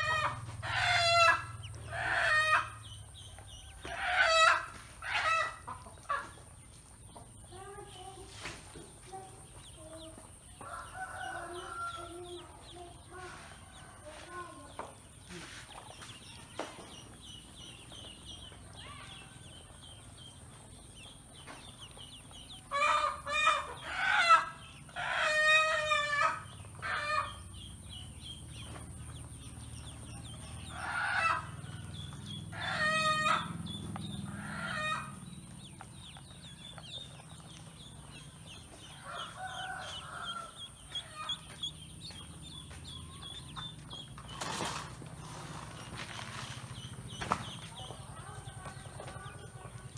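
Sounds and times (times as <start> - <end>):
rooster crowing and clucking: 0.0 - 6.5, 10.2 - 14.8, 17.2 - 27.7, 28.4 - 45.2, 47.6 - 49.9
chickens calling: 0.0 - 49.9
ducklings peeping: 0.0 - 49.9.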